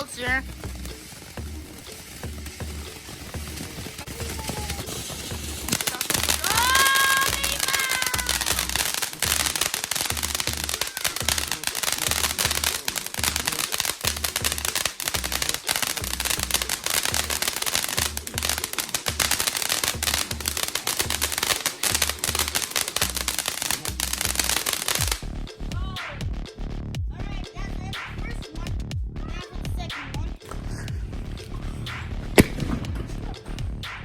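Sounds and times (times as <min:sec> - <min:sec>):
firework crackling and popping: 0:00.0 - 0:25.3, 0:31.3 - 0:34.0
bass beat of background music: 0:00.0 - 0:34.0.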